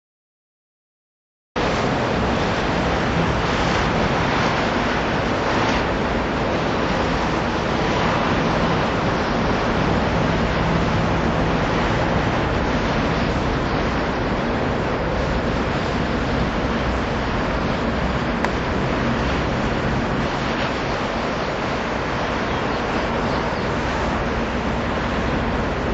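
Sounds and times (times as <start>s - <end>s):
wind on microphone: 1.6s - 25.9s.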